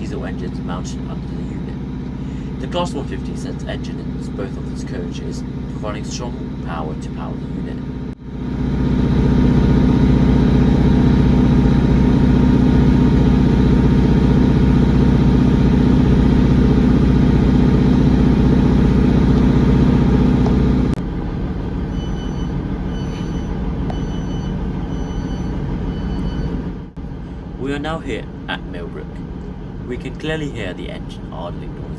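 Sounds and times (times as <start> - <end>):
train diesel engines running: 0.0 - 21.9, 24.7 - 31.9.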